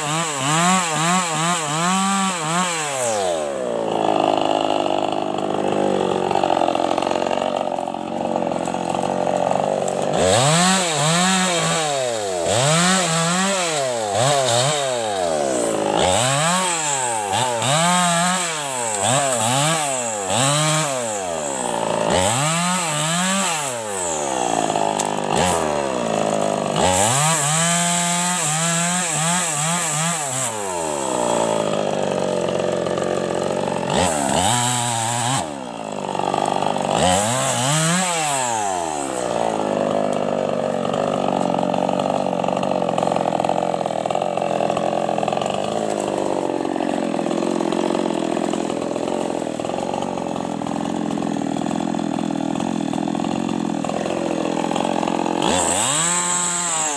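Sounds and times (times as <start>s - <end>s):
chainsaw cutting and revving: 0.0s - 56.9s.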